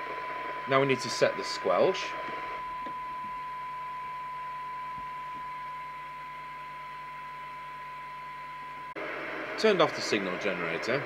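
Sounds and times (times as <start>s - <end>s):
light radio hiss: 0.0s - 11.0s
steady radio test tone: 0.0s - 11.0s.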